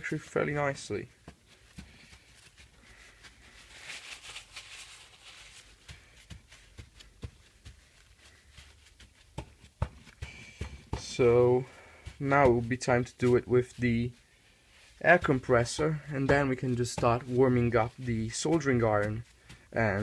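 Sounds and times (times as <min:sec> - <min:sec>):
paper towel rustling: 0:00.0 - 0:20.0.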